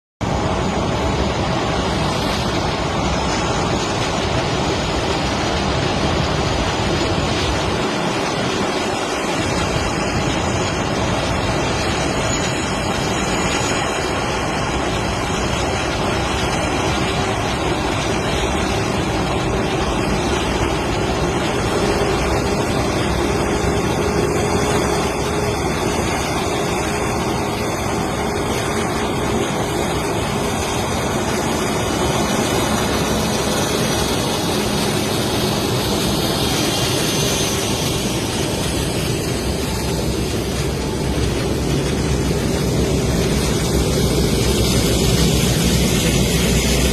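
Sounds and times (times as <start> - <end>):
jet engine roar: 0.2 - 46.9.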